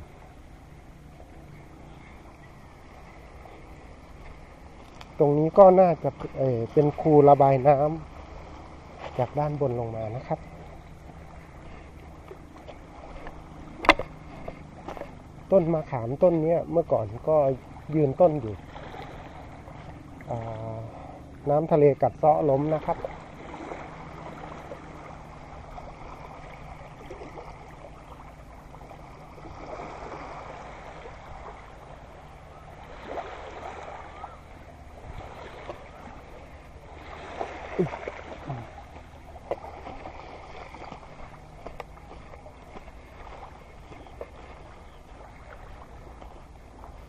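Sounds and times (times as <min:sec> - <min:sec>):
low steady hum: 0:00.0 - 0:47.0
waves lapping on shore: 0:00.0 - 0:47.0.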